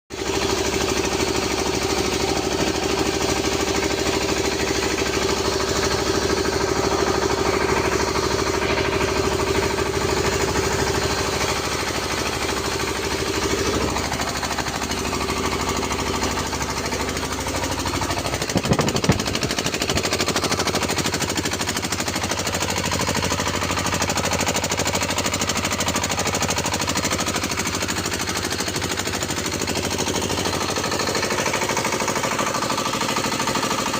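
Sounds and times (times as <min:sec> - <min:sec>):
diesel engine knocking: 0:00.2 - 0:33.9.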